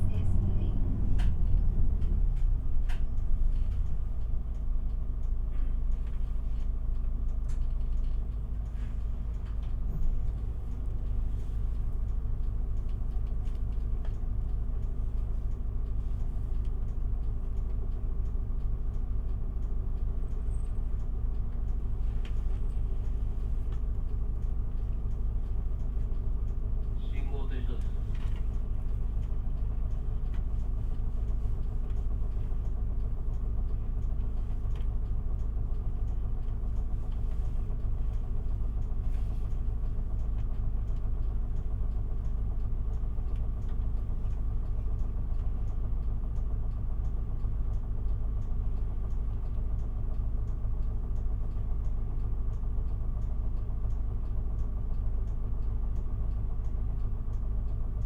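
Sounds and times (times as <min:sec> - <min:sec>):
bus engine idling: 0:00.0 - 0:58.0.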